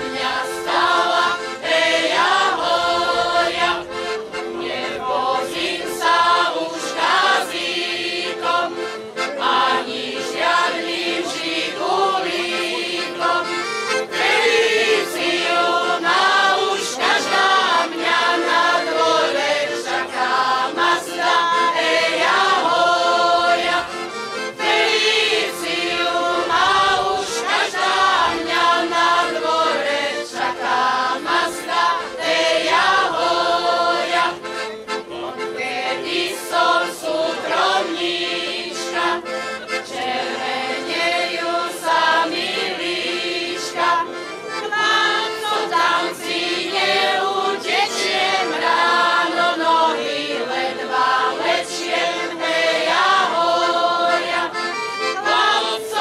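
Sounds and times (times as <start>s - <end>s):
accordion: 0.0s - 56.0s
mixed choir singing folk song: 0.0s - 56.0s.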